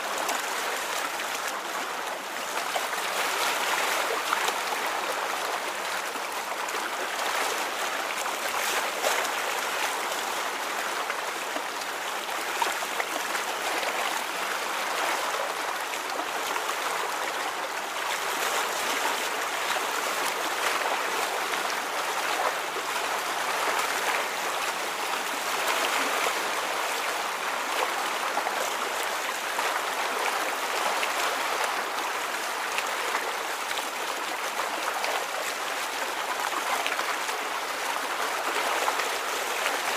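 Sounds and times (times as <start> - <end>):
rippling water gurgling: 0.0 - 39.9.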